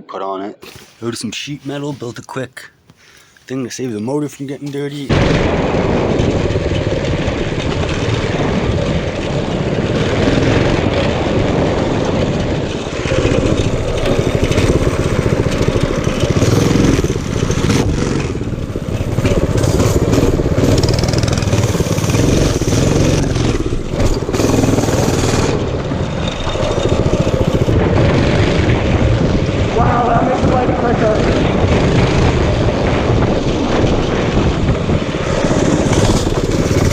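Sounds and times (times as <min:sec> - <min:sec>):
small engine running loud: 0:06.0 - 0:36.9.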